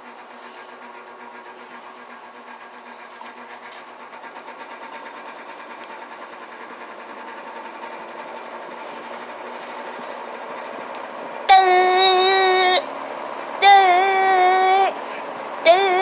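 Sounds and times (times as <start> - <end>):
rapid mechanical rattle: 0.0 - 16.0.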